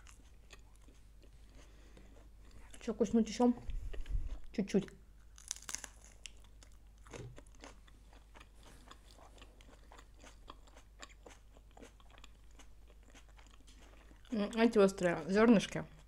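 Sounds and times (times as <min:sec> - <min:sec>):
person chewing crunching: 0:00.0 - 0:02.9, 0:03.7 - 0:04.5, 0:05.2 - 0:14.4.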